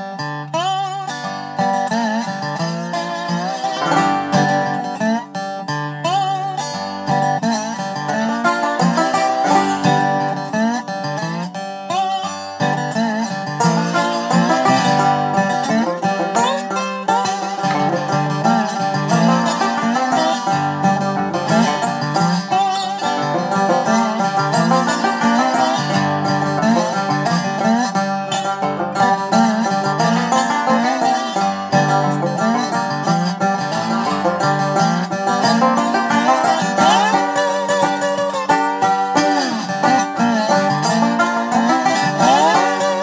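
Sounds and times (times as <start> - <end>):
bluegrass banjo and guitar music: 0.0 - 43.0.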